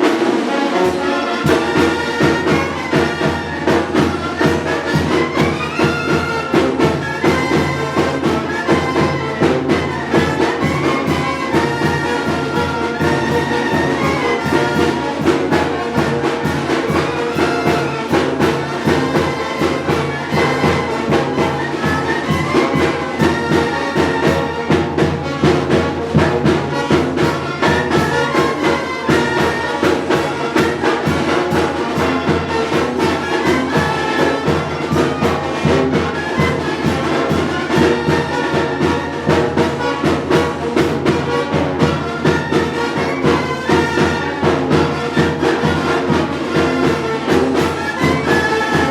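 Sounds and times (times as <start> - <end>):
brass band playing: 0.0 - 48.9
steady drum beat: 0.0 - 48.9
trumpets and trombones: 0.0 - 48.9.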